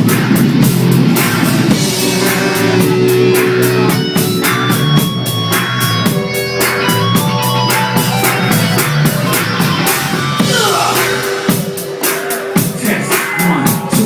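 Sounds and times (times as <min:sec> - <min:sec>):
band music with drum kit: 0:00.0 - 0:14.0.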